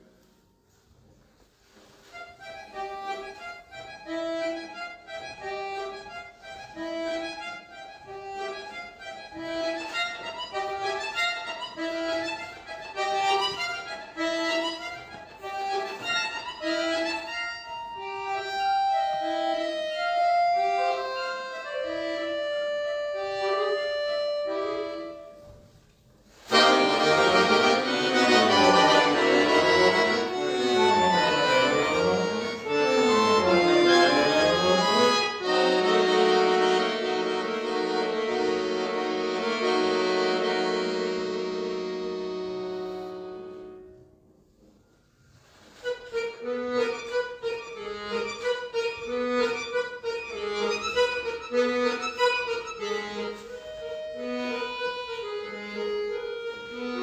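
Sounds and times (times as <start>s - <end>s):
solo accordion playing: 1.6s - 57.0s.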